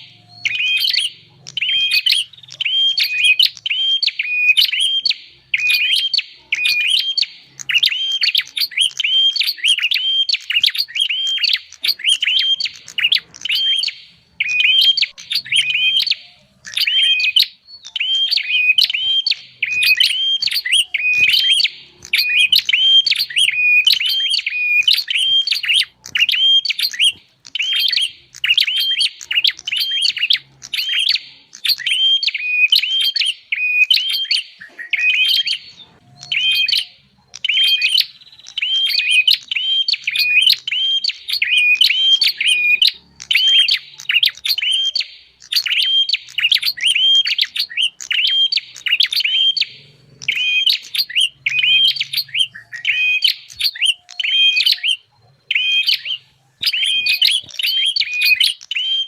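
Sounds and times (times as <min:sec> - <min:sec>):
rapid high bird chirps: 0:00.0 - 0:59.0.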